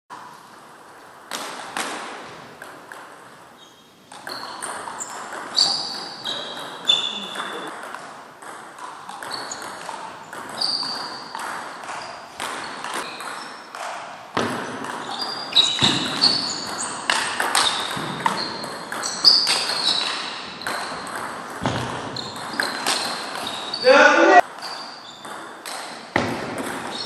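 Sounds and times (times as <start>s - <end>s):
table tennis ball hits: 1.3s - 3.4s, 4.1s - 27.0s.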